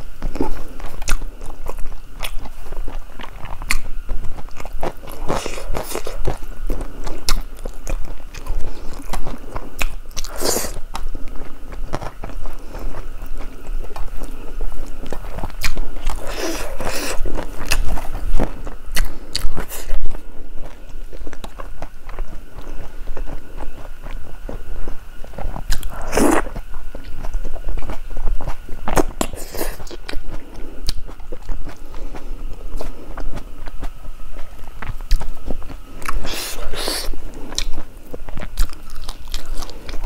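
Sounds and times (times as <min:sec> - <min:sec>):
chewing and wet mouth sounds: 0:00.2 - 0:40.0.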